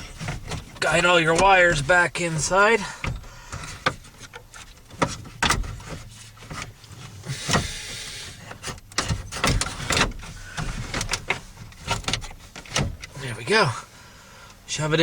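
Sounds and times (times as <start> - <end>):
scraping rustle: 0.0 - 13.9.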